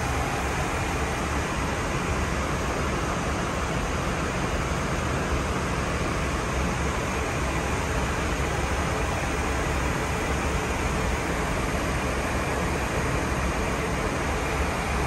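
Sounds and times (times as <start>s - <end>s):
airplane cabin engine rush: 0.0s - 15.0s.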